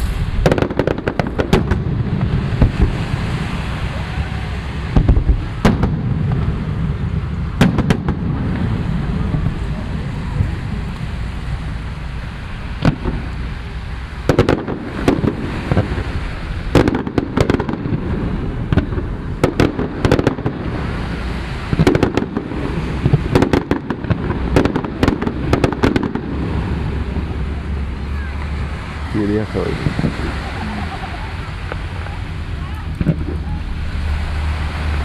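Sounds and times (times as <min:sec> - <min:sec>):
fireworks bursting: 0:00.0 - 0:35.0
low rumble: 0:00.0 - 0:35.0.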